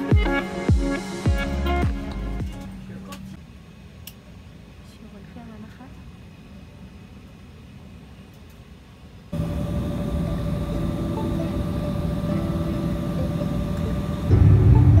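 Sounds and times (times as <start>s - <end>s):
jet engines rumbling in cabin: 2.4s - 15.0s.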